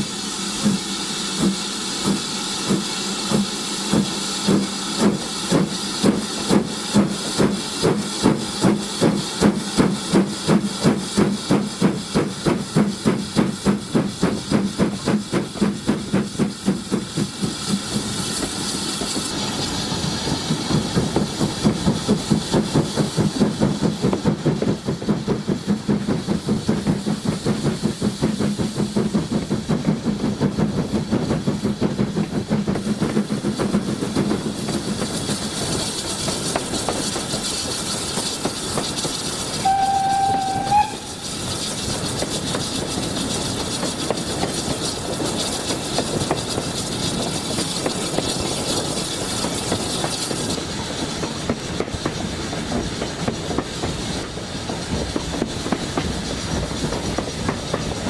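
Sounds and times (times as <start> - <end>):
steam hiss: 0.0 - 58.0
steam locomotive exhaust beats: 0.0 - 58.0.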